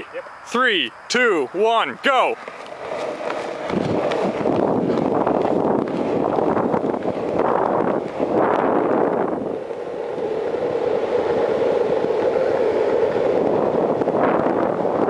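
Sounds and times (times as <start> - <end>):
wind rushing over microphone: 0.8 - 15.0
longboard wheels rolling on asphalt: 2.3 - 15.0.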